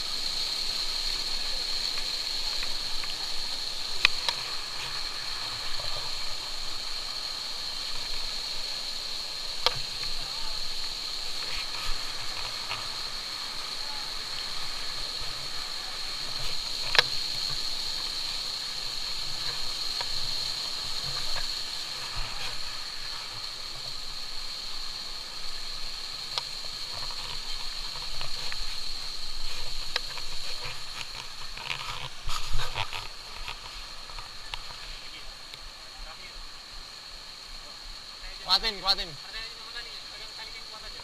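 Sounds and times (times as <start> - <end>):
stream water flowing: 0.0 - 41.0.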